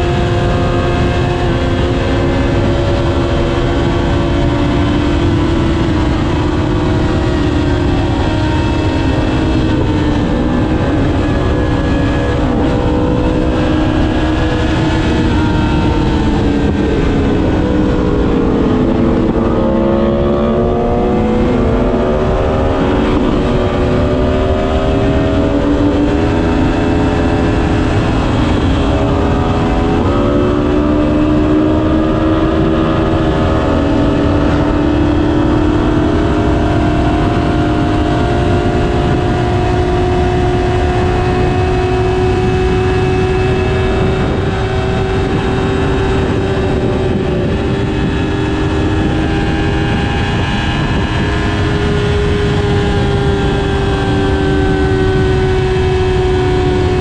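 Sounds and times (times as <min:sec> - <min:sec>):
motorcycle engine: 0:00.0 - 0:57.0
wind and road rush: 0:00.0 - 0:57.0.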